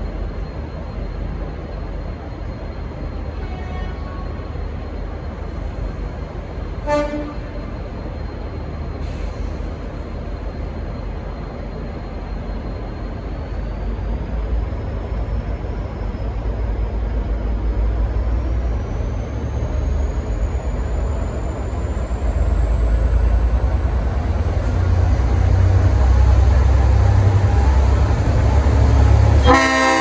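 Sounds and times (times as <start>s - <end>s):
locomotive engine rumble: 0.0s - 30.0s.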